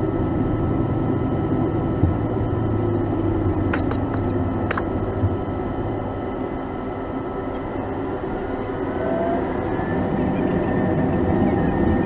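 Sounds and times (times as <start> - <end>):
aircraft engines rumbling: 0.0 - 12.0
faint rising engine whine: 0.0 - 12.0.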